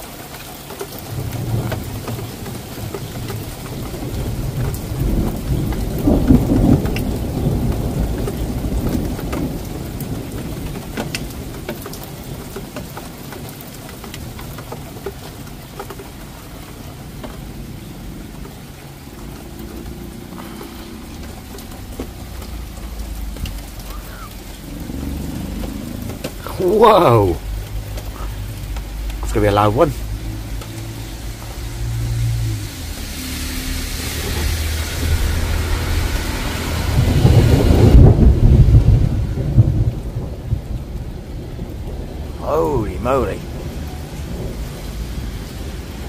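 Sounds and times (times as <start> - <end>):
steady rain: 0.0 - 46.0
water drips ticking: 0.0 - 46.0
thunder rumbling: 1.0 - 46.0.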